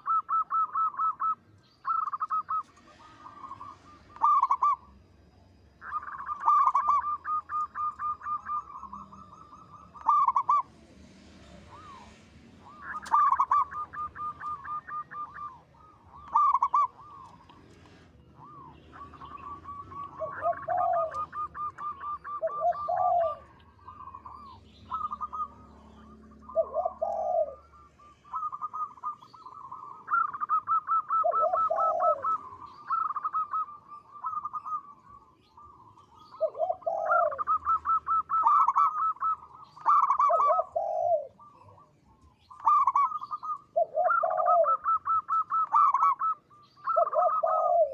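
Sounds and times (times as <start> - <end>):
dove cooing: 0.0 - 5.1, 5.8 - 47.9.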